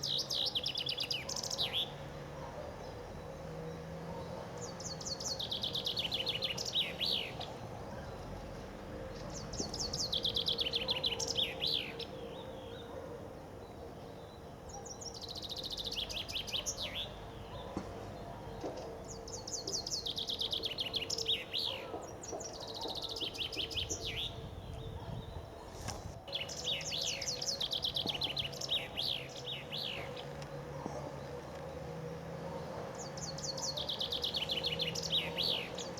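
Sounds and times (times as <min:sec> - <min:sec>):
chaffinch singing: 0:00.0 - 0:35.9.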